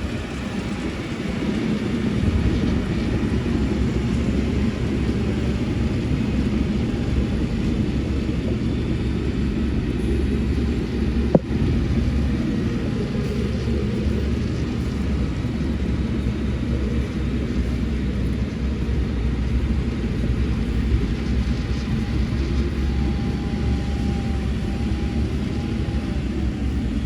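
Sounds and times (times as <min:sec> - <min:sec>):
diesel engine rumbling: 0:00.0 - 0:27.0.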